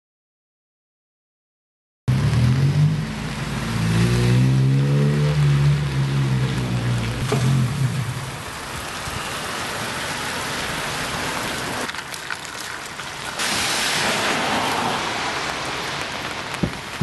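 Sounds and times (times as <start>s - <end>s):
steady rain falling: 2.2s - 17.0s.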